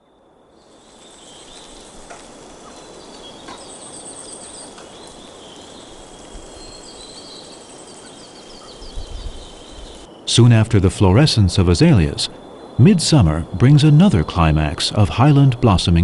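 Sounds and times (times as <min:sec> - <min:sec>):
steady hiss: 0:00.2 - 0:16.0
small birds chirping: 0:00.6 - 0:16.0.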